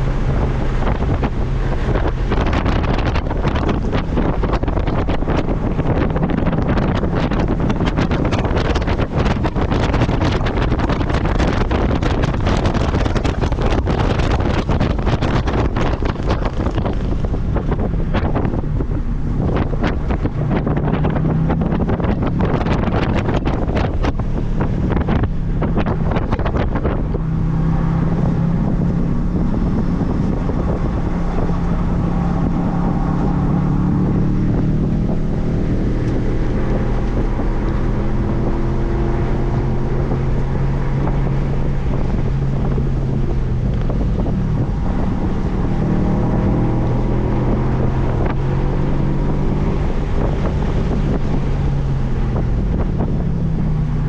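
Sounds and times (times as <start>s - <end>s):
car engine revving hard: 0.0s - 54.0s
wind noise on microphone: 0.0s - 54.0s.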